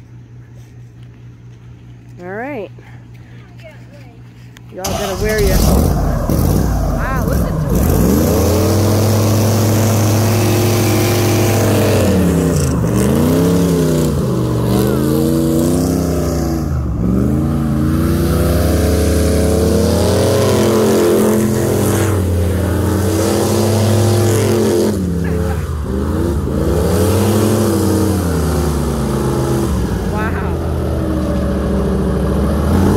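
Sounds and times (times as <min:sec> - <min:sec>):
airboat engine and propeller: 0:04.7 - 0:32.9.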